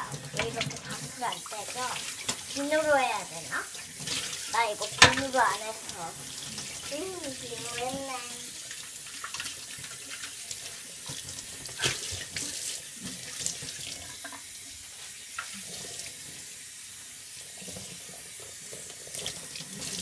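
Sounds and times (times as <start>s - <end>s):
faucet running into a steel sink: 0.0s - 20.0s.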